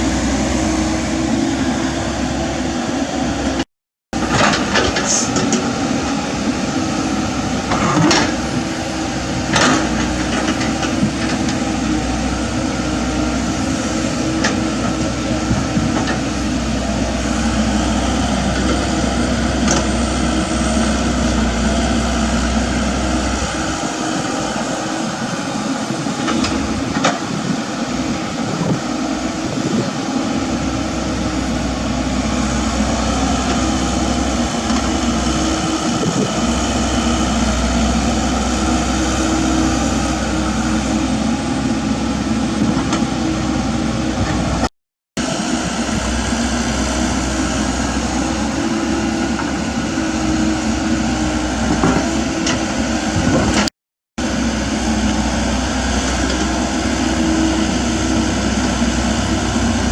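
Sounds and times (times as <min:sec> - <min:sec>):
excavator diesel engine running: 0:00.0 - 0:03.6, 0:04.2 - 0:59.9.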